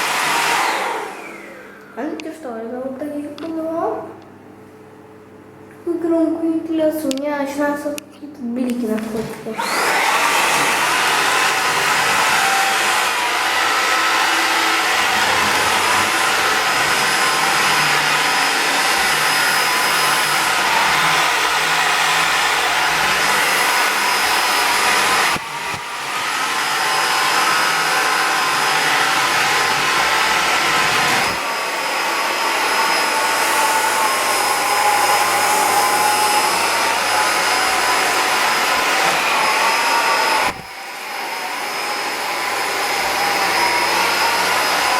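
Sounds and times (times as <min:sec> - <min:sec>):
vacuum cleaner motor whine: 0:00.0 - 0:02.2, 0:09.5 - 0:44.9.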